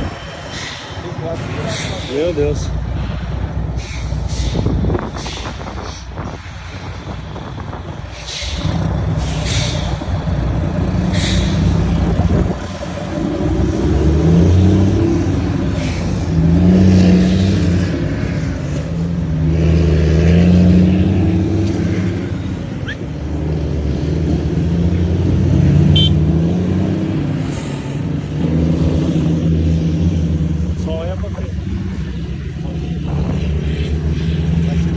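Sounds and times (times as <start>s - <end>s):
truck diesel engines rumbling: 0.0s - 34.9s.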